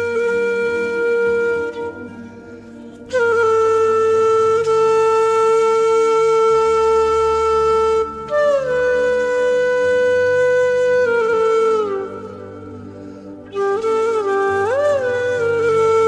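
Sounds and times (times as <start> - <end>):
wind instrument long notes: 0.0 - 16.0.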